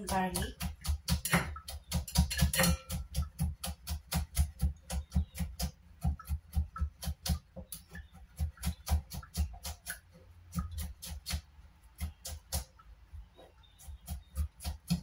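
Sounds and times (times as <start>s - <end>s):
cleaver chopping on wooden board: 0.0s - 12.7s, 13.8s - 15.0s.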